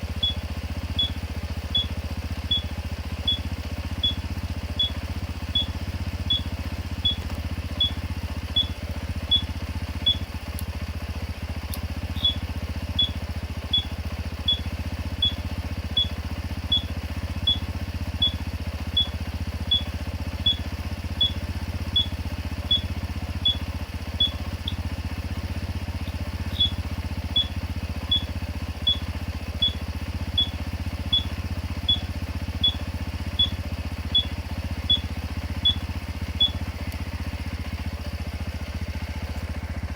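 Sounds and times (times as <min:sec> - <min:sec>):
motorcycle engine idling: 0:00.0 - 0:39.9
turn-signal buzzer beeps: 0:00.2 - 0:10.3, 0:12.1 - 0:25.3, 0:26.0 - 0:36.8.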